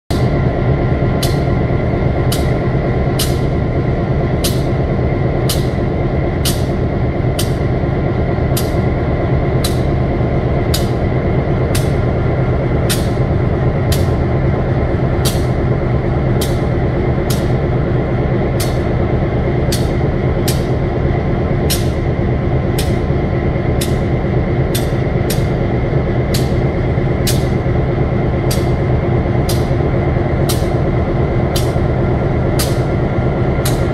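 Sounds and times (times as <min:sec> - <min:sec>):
diesel locomotive engine drone: 0:00.0 - 0:33.9
high whine: 0:00.1 - 0:33.9
wheels clicking on rails: 0:00.1 - 0:33.9.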